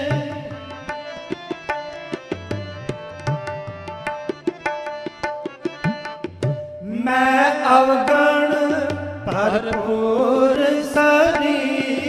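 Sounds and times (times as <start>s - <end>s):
harmonium holding notes: 0.0s - 12.0s
tabla playing: 0.0s - 12.0s.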